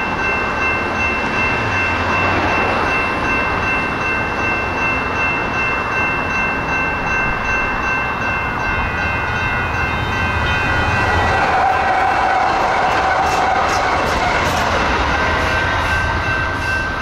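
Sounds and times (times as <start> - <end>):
crossing bell ringing: 0.0 - 17.0
light rail train rumbling: 0.0 - 17.0.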